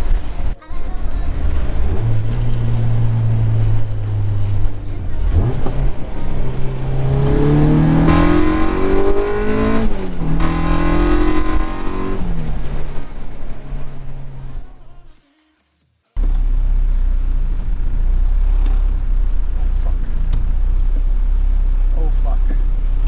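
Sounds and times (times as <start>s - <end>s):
car engine accelerating: 0.0s - 15.1s, 16.2s - 23.0s.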